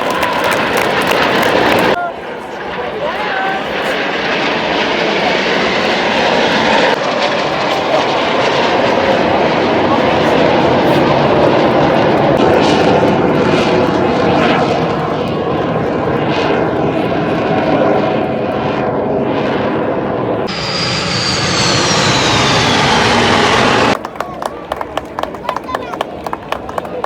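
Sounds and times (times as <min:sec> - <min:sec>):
jet high whine: 0:00.0 - 0:24.0
jet aircraft roaring past: 0:00.0 - 0:24.5.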